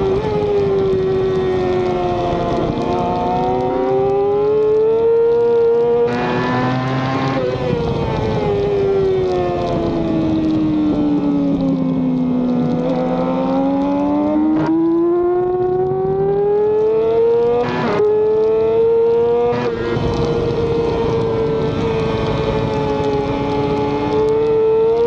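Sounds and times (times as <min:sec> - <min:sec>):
wind rush: 0:00.0 - 0:05.1, 0:06.1 - 0:25.0
motorcycle engine accelerating: 0:00.0 - 0:25.0.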